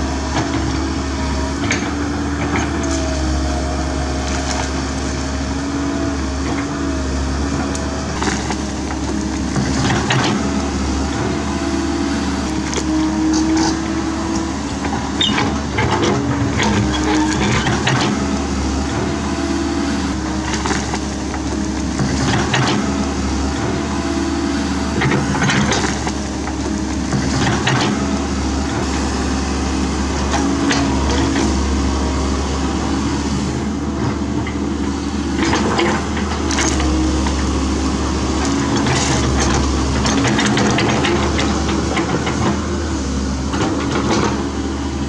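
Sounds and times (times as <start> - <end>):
excavator diesel engine: 0.0 - 45.0
roots and wood cracking: 1.6 - 34.0, 35.4 - 42.6.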